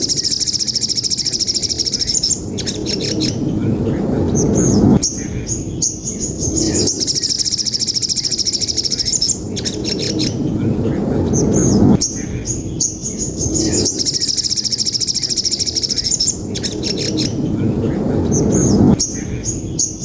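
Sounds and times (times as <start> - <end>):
low rumbling noise: 0.0 - 20.0
sparrows chirping: 0.0 - 20.0.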